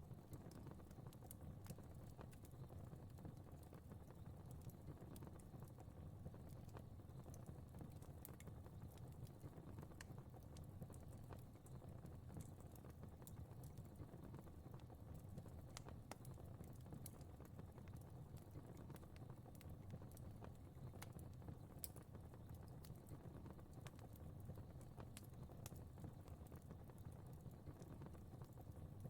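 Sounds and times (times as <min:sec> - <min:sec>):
faint fire crackling: 0:00.0 - 0:29.0
soft low rumble of burning: 0:00.0 - 0:29.0.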